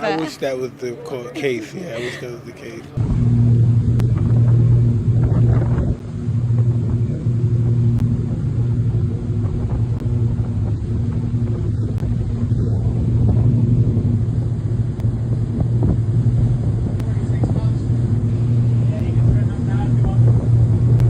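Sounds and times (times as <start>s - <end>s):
engine droning steadily: 0.0s - 21.0s.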